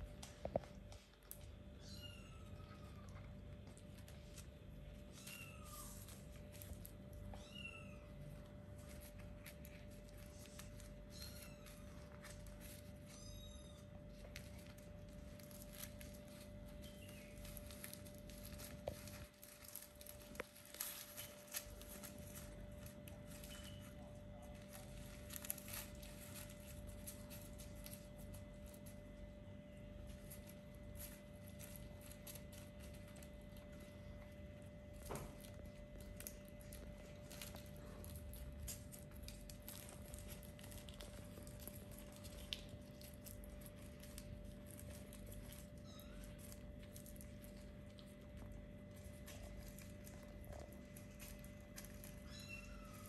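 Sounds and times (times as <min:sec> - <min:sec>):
kittens rustling and scratching: 0:00.0 - 0:53.0
low electrical hum: 0:00.0 - 0:53.0.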